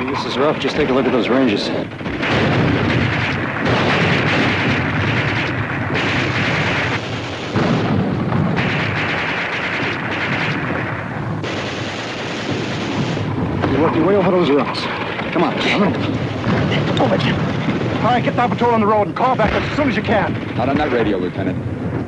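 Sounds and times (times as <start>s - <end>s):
gunfire and shellfire: 0.0s - 22.0s.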